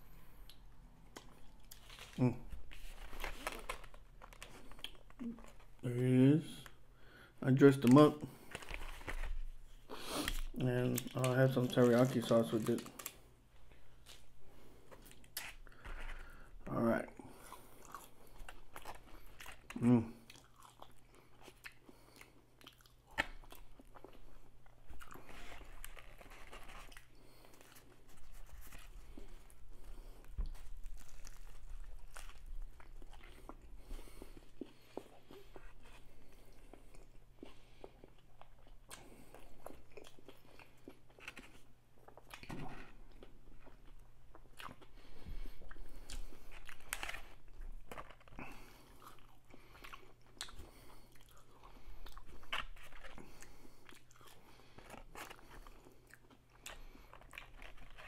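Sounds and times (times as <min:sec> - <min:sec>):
crunchy chewing of sandwich: 0:00.4 - 0:05.8, 0:08.3 - 0:58.0.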